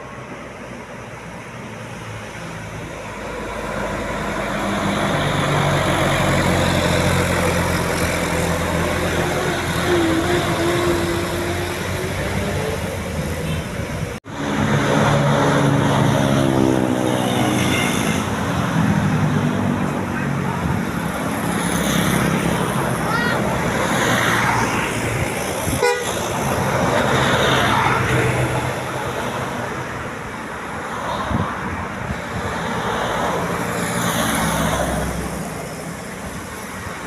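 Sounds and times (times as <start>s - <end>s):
bus engines passing: 0.0s - 37.0s
loud vehicle passing: 1.6s - 36.5s.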